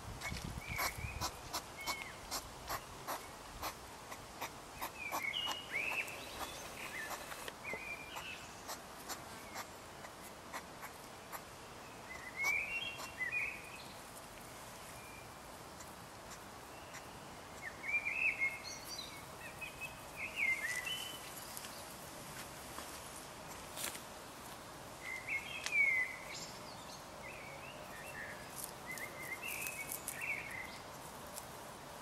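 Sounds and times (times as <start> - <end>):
small birds chirping: 0.2 - 22.0, 25.0 - 31.5.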